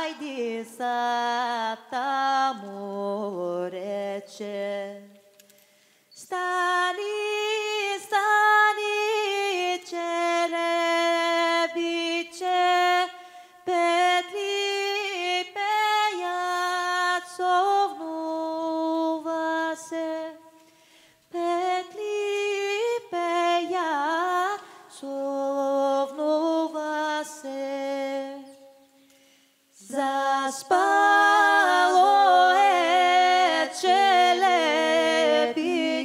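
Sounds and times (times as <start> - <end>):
woman singing unaccompanied: 0.0 - 5.3, 6.2 - 20.5, 21.3 - 28.8, 29.8 - 36.0.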